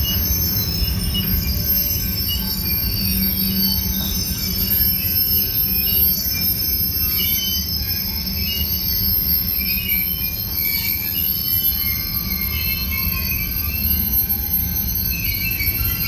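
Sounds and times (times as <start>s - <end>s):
low train rumble: 0.0s - 16.0s
thin high whine: 0.0s - 16.0s
train wheels squealing: 0.0s - 16.0s.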